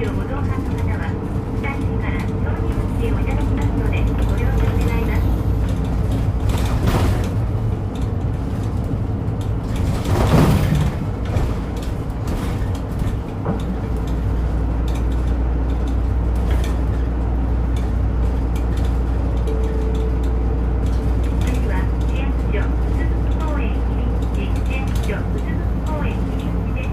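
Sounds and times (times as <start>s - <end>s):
bus engine running: 0.0s - 26.9s.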